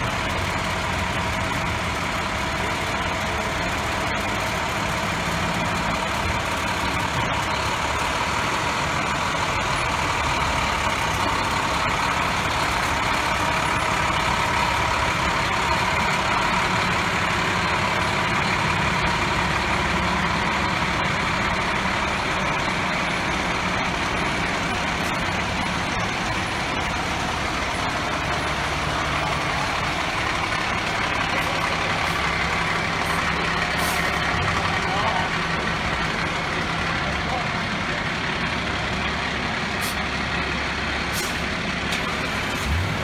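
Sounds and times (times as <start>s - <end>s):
fire engines running: 0.0s - 43.0s.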